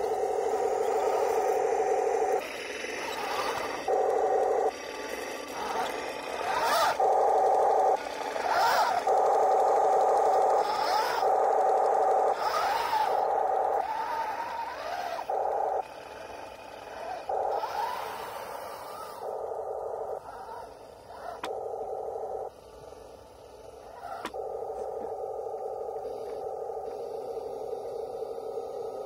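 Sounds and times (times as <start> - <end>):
electric motors whining: 0.0 - 29.0
tank engine noise through speaker: 0.0 - 29.0.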